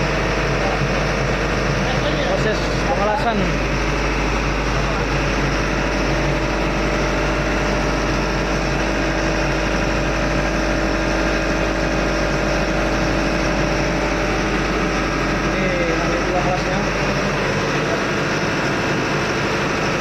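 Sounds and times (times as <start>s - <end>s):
ship engine room machinery drone: 0.0s - 20.0s.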